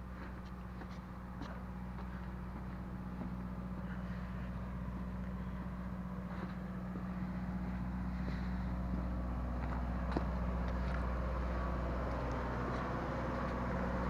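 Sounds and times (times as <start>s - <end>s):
engine running at low speed: 0.0s - 14.0s.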